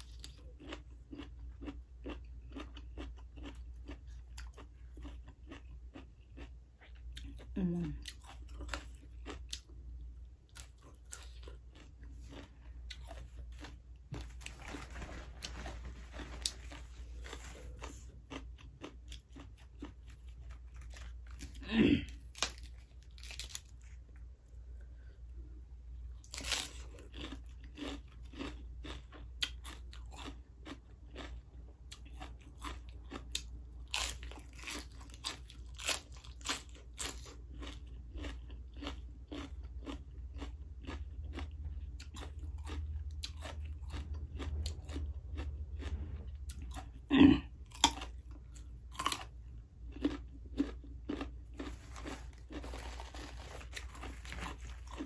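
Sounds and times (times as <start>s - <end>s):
crunching and chewing vegetables: 0.0s - 55.0s.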